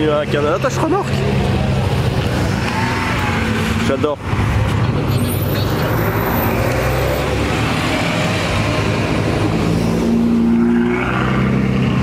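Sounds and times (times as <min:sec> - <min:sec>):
tyre and street noise: 0:00.0 - 0:12.0.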